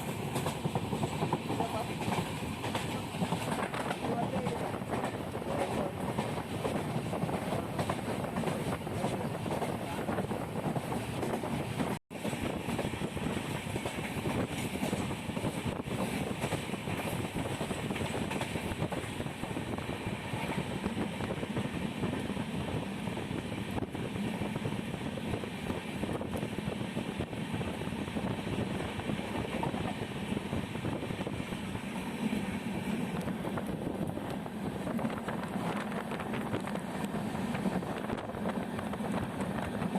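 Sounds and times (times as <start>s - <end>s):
moving passenger train: 0.0s - 39.9s.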